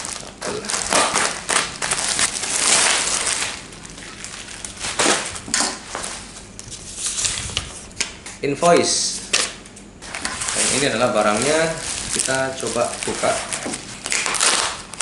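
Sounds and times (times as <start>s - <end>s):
plastic wrap crinkling: 0.0s - 7.9s, 10.0s - 15.0s.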